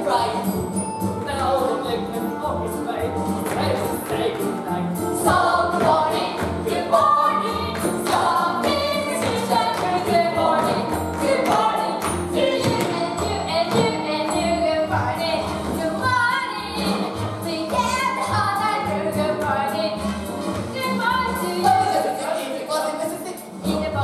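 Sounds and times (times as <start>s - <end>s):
instrumental accompaniment with beat: 0.0s - 22.2s
group of voices singing: 0.0s - 24.0s.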